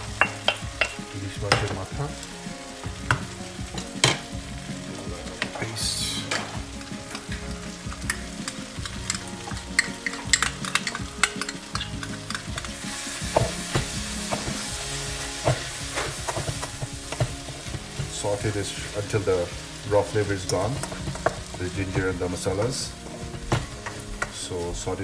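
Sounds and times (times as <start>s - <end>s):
food frying sizzle: 0.0s - 25.0s.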